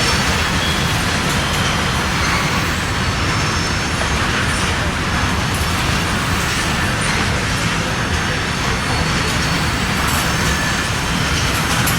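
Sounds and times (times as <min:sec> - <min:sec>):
freight train rumble and rail noise: 0:00.0 - 0:11.9.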